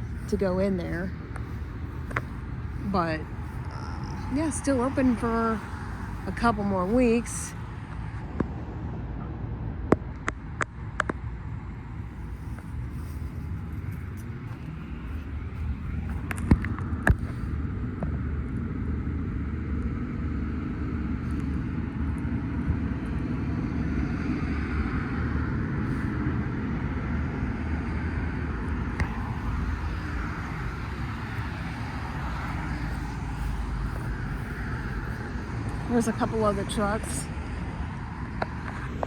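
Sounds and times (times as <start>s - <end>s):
low vehicle rumble: 0.0s - 39.0s.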